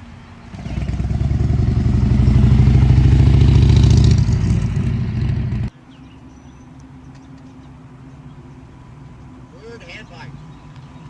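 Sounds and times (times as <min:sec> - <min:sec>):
car engine and exhaust: 0:00.0 - 0:11.0.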